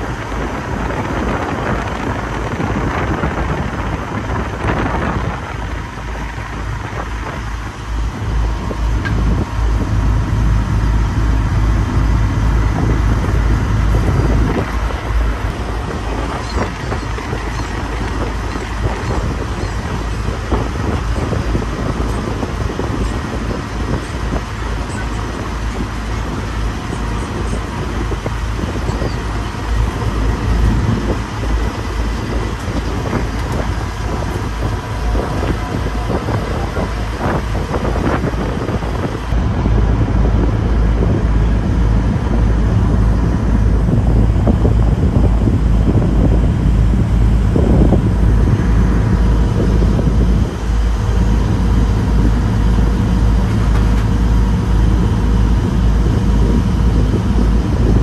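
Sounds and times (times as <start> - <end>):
boat engine rumble: 0.0 - 58.0
wind buffeting microphone: 0.0 - 58.0.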